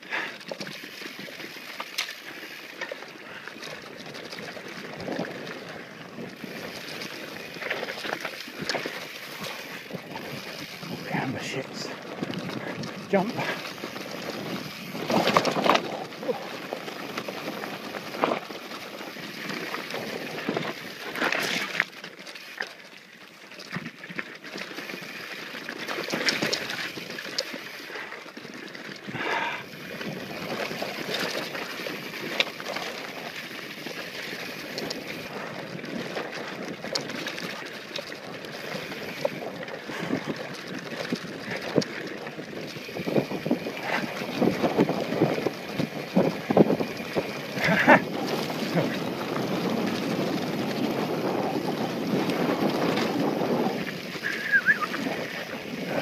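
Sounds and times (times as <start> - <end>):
bike rattling over bumps: 0.0 - 56.0
bike tyres on gravel: 0.0 - 56.0.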